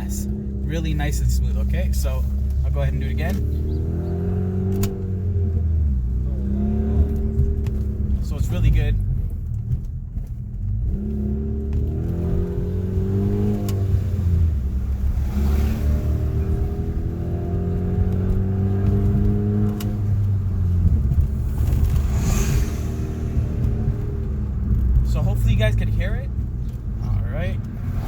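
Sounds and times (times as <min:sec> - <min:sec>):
car exhaust revving through gears: 0:00.0 - 0:28.0.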